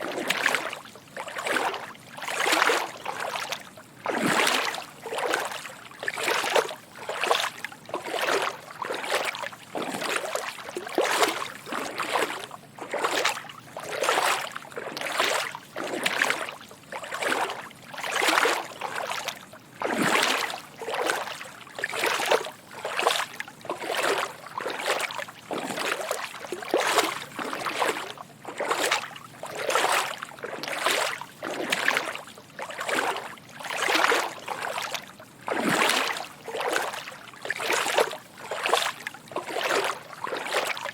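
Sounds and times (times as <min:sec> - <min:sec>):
footsteps wading through water: 0:00.0 - 0:40.9.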